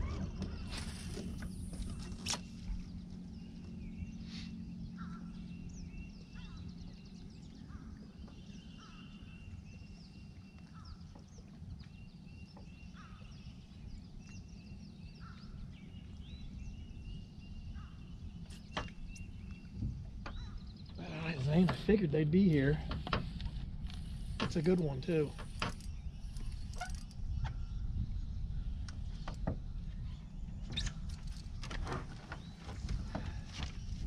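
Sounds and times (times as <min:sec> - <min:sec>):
birds singing: 0:00.0 - 0:34.0
low steady rumble: 0:00.0 - 0:34.0.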